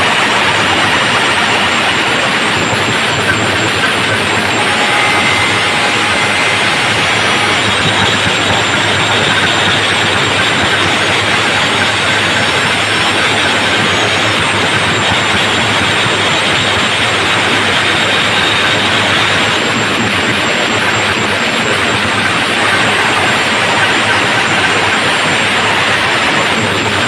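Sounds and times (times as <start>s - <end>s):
distorted speaker roar: 0.0s - 27.0s.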